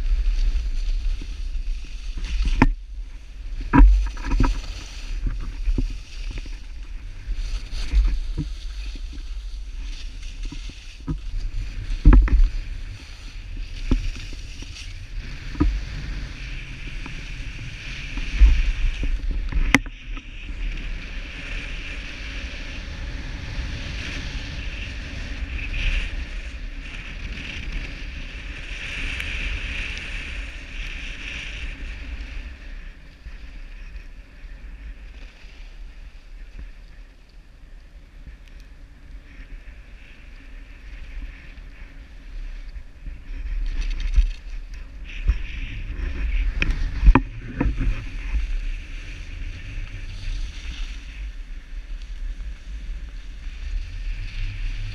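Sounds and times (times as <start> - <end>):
skis scraping over snow: 0.0 - 54.9
wind rumble on microphone: 0.0 - 54.9.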